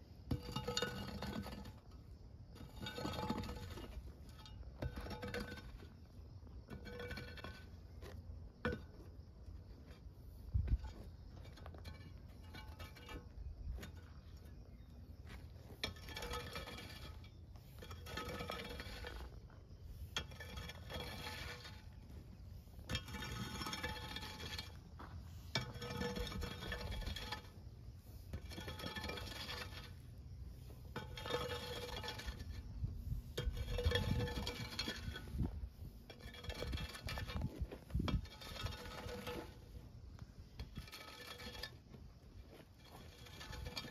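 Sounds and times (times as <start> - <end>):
hoe blade scraping stony dirt: 0.0 - 43.9.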